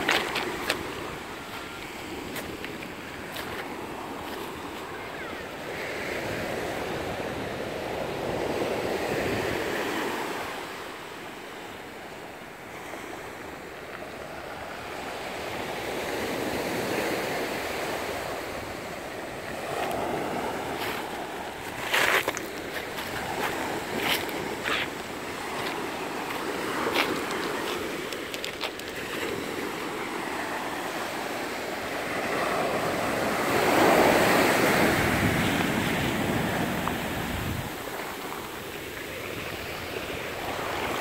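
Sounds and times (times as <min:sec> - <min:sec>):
waves breaking on pebble beach: 0:00.0 - 0:10.8, 0:14.5 - 0:41.0.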